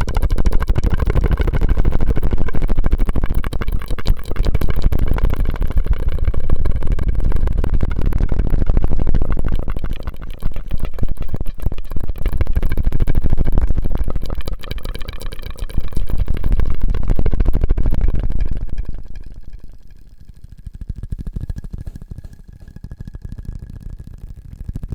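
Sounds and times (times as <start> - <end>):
mouth clicks and smacks: 0.0 - 23.6.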